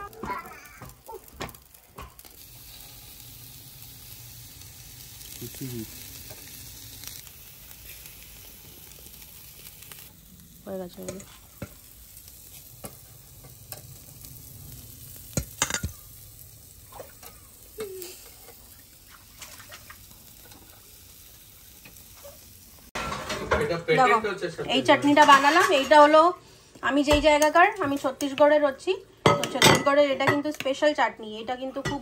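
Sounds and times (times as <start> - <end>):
chicken sizzling on grill: 0.0 - 32.0.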